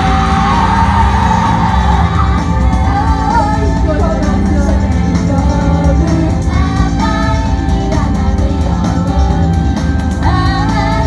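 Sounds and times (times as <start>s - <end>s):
women singing: 0.0s - 9.5s, 10.2s - 11.0s
amplified pop backing music: 0.0s - 11.0s.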